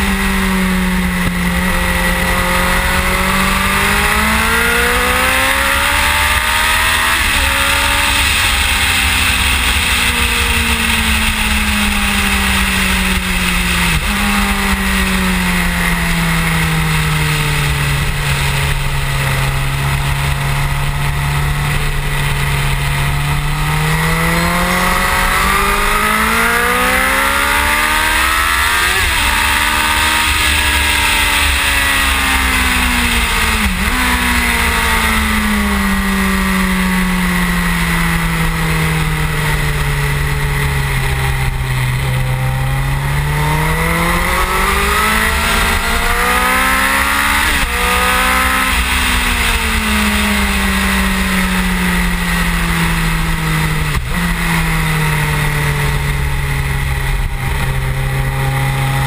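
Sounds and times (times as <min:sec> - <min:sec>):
motorcycle engine at speed: 0:00.0 - 0:59.0
road noise: 0:00.0 - 0:59.0.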